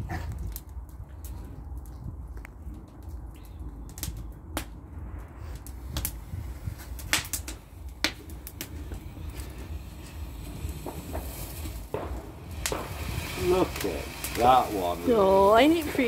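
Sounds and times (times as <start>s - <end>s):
bonfire crackling and popping: 0.0s - 16.0s
steady low rumble: 0.0s - 16.0s.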